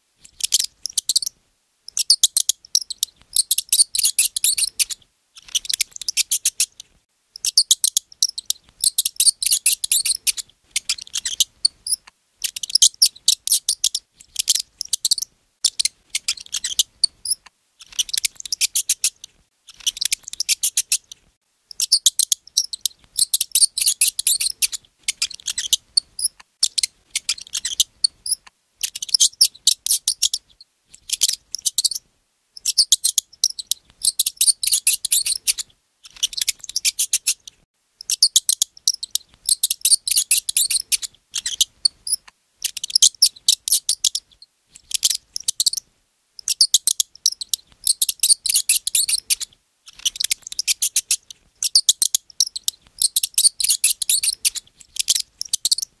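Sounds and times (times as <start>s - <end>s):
mouse squeaking: 0.2s - 56.0s.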